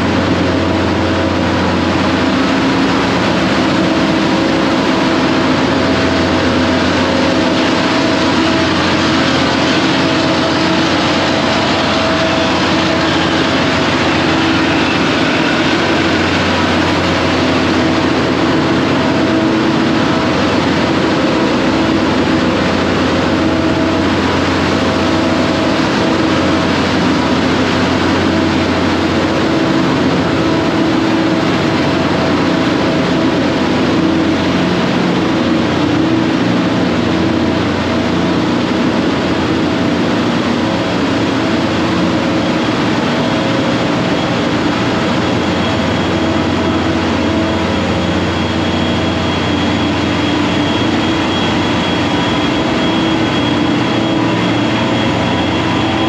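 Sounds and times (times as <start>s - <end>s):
engine room machinery drone: 0.0s - 56.0s
faint high whine: 0.0s - 56.0s.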